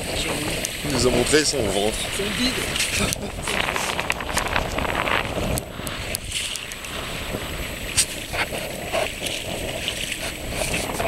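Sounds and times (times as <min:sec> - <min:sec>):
water slapping boat hull: 0:00.0 - 0:11.0
wind on microphone: 0:00.0 - 0:11.0.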